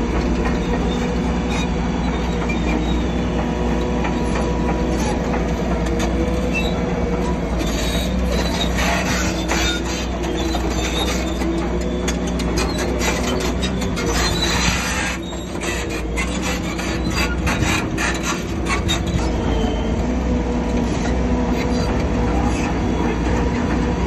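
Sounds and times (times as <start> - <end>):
diesel engine running: 0.0 - 24.0
steel tracks squealing and clanking: 0.0 - 24.0.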